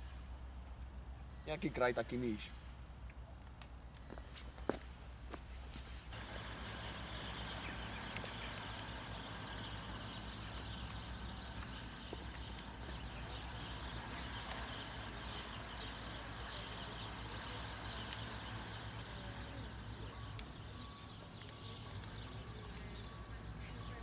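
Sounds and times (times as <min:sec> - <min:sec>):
faint bird chirping: 0:01.1 - 0:04.8, 0:06.1 - 0:24.0.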